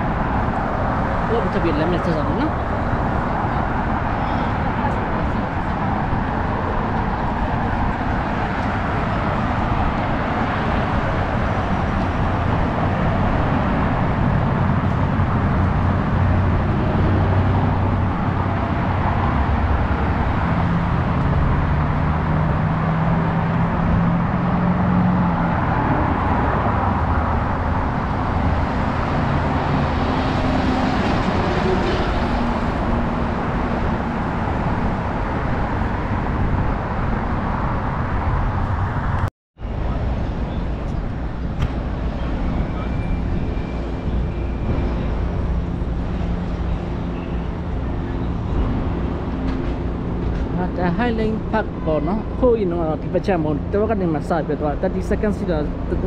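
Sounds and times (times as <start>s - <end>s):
road rumble: 0.0s - 56.0s
vehicle engine hum: 0.0s - 56.0s.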